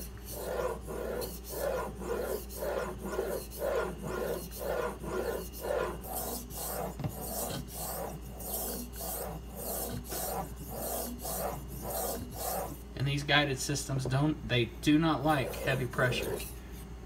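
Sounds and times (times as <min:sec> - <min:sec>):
knife grinding on whetstone: 0:00.0 - 0:12.9, 0:15.2 - 0:16.8.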